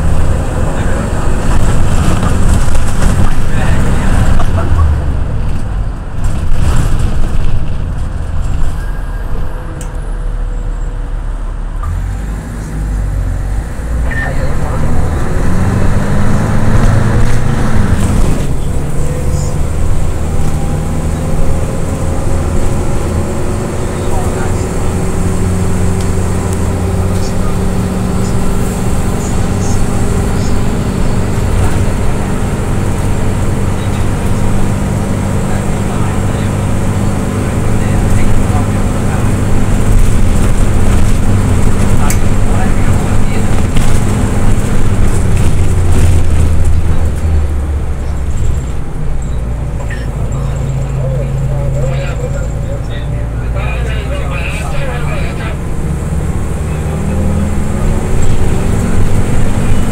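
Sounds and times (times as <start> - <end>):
minibus engine and road rumble: 0.0 - 59.9.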